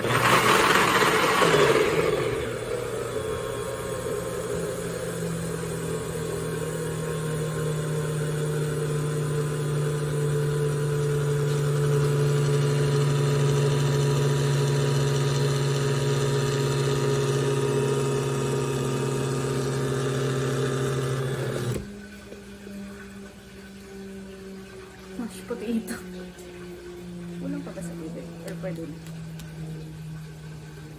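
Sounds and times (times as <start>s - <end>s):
blender motor running: 0.0s - 30.9s.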